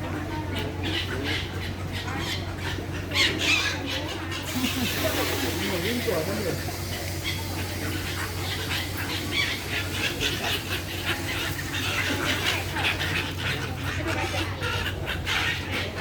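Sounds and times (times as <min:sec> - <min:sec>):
flock of birds calling: 0:00.0 - 0:16.0.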